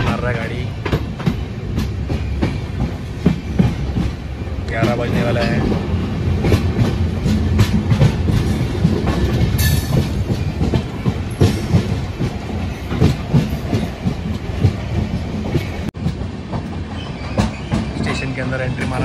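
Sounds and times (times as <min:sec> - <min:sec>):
train rumbling: 0:00.0 - 0:19.0
wheels clattering over rail joints: 0:00.0 - 0:19.0.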